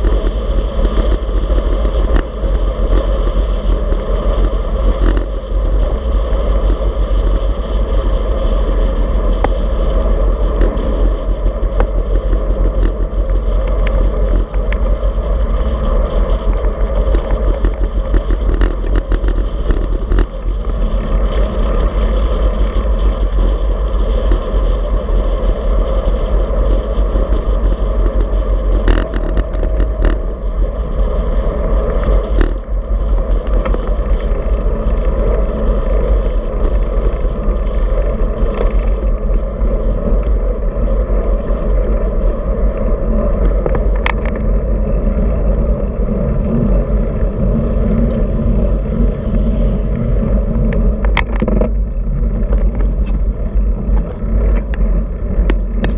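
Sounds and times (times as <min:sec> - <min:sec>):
bike tyre noise: 0:00.0 - 0:55.9
wind rush on microphone: 0:00.0 - 0:55.9.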